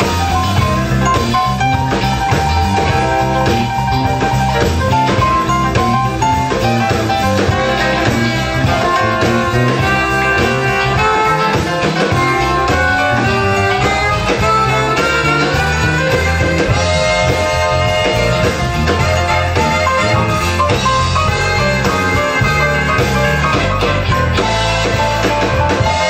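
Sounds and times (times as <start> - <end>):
drums: 0.0 - 26.0
electric guitar: 0.0 - 26.0
keyboards: 0.0 - 26.0
live band playing: 0.0 - 26.0
saxophones and trumpets: 0.0 - 26.0.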